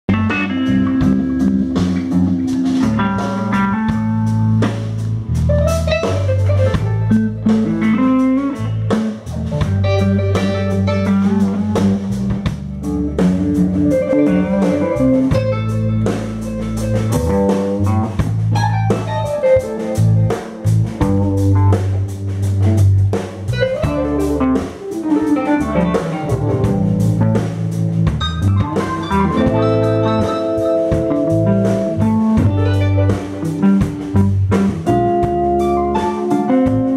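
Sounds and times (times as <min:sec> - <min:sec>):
bass notes: 0:00.1 - 0:36.9
drum kit: 0:00.1 - 0:36.9
electric guitars: 0:00.1 - 0:36.9
keyboard: 0:00.1 - 0:36.9.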